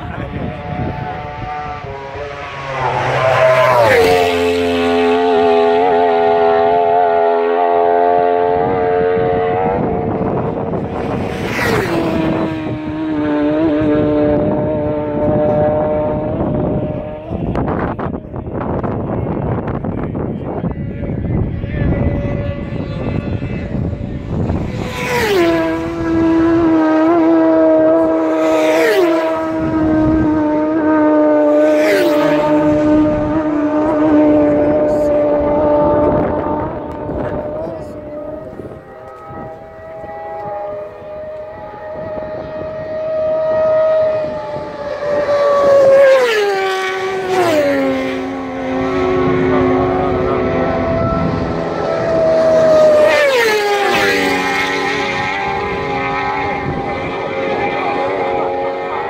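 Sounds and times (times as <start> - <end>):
motorcycle passing by: 0.0 - 59.0
racing motorcycle engine high revs: 0.0 - 59.0.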